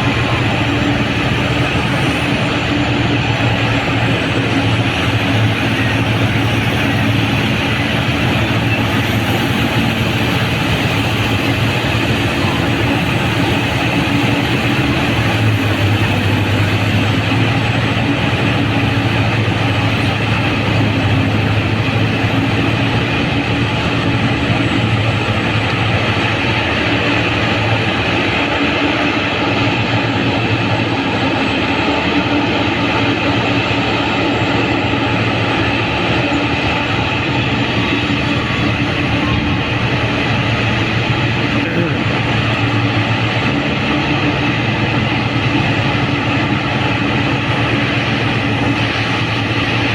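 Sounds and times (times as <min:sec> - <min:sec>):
diesel engine humming: 0:00.0 - 0:49.9.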